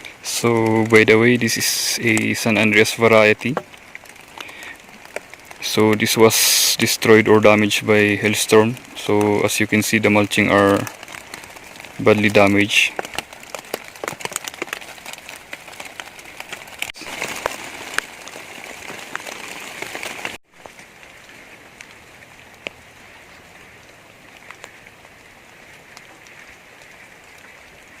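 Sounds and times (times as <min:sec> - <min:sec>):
hiss of rain: 0:00.0 - 0:28.0
rain drops ticking on a surface: 0:00.0 - 0:28.0.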